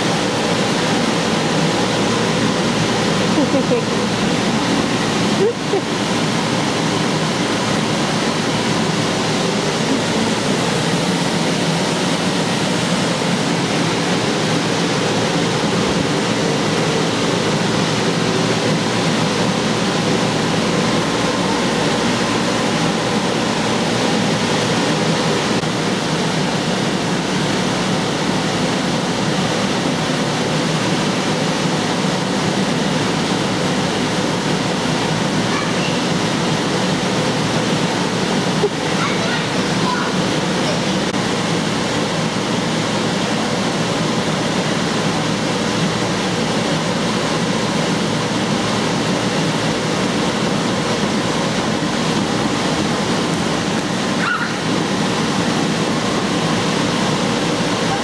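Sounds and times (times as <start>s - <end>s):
blower fans rushing: 0.0s - 58.0s.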